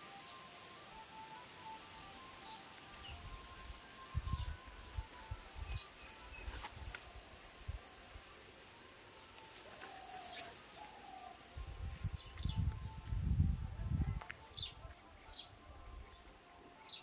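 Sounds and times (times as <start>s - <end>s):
small birds chirping: 0.0s - 7.5s, 8.3s - 13.2s, 14.2s - 17.0s.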